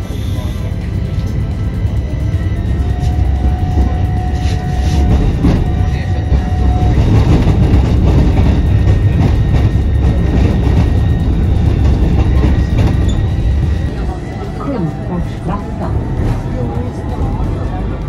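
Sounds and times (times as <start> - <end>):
held whine: 0.0 - 18.0
tram rumbling on rails: 0.0 - 18.0.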